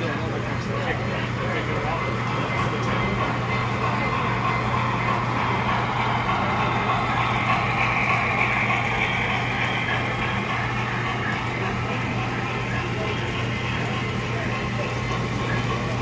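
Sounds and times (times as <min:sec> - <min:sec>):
model train wheels clattering: 0:00.0 - 0:16.0.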